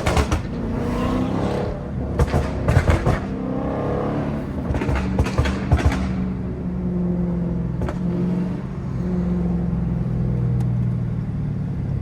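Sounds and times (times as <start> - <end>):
car engine while driving: 0.0 - 12.0.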